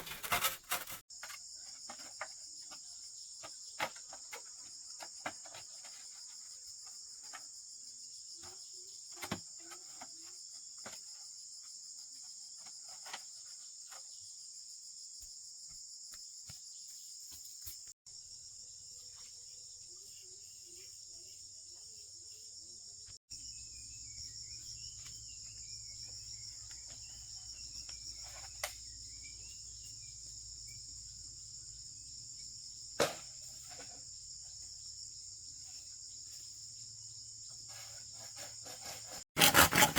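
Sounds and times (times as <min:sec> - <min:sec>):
crickets and insects chorus: 0:00.0 - 0:39.2.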